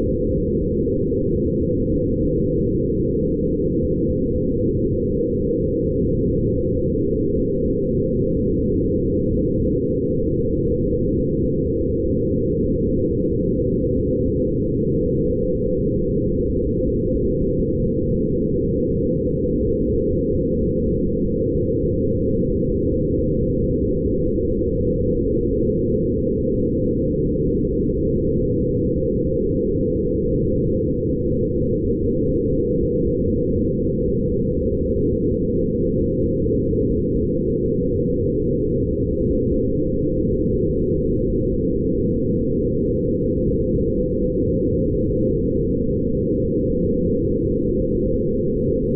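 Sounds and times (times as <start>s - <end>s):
dense low drone: 0.0s - 48.9s.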